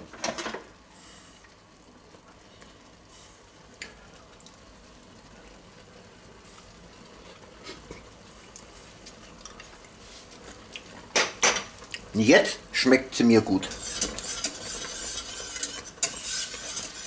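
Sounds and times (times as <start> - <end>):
sauce simmering in a saucepan: 0.7 - 17.0.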